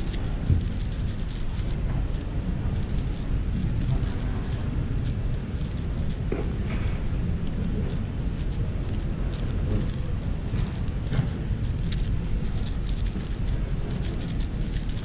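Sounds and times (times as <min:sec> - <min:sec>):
low hall rumble: 0:00.0 - 0:15.0
speed cube layers clicking: 0:00.0 - 0:15.0.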